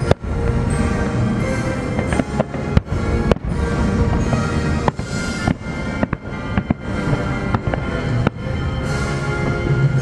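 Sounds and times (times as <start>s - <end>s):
fireworks bangs: 0.0s - 9.1s
music playing: 0.0s - 10.0s.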